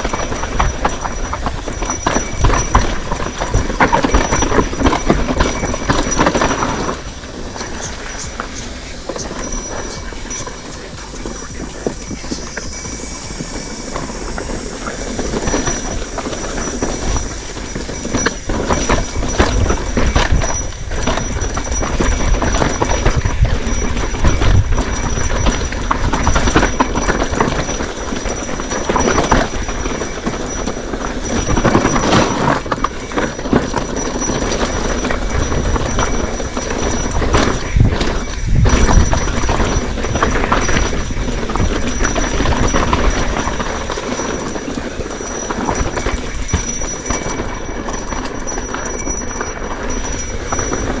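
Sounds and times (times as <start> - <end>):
bicycle rattling on rough trail: 0.0 - 51.0
tyre noise: 0.0 - 51.0
wind rumble on microphone: 0.0 - 51.0.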